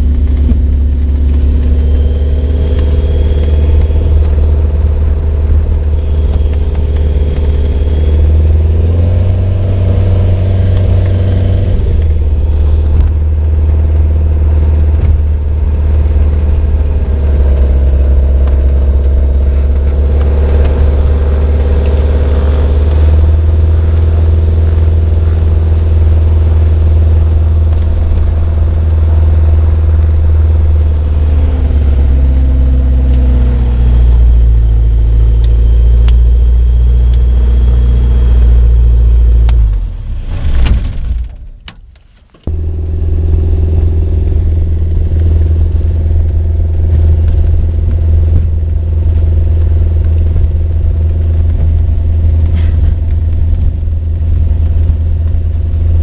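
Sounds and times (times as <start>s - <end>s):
aircraft engine and propeller running: 0.0s - 56.0s.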